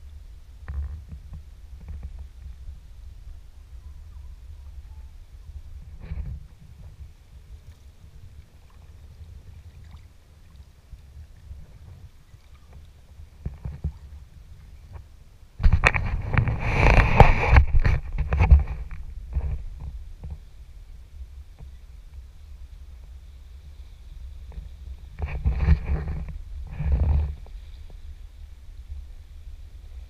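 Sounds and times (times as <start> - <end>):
water splashing against kayak: 5.4 - 30.0.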